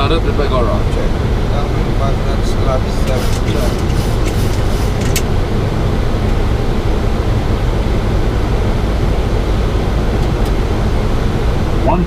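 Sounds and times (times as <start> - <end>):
airflow and engines rushing: 0.0 - 12.0.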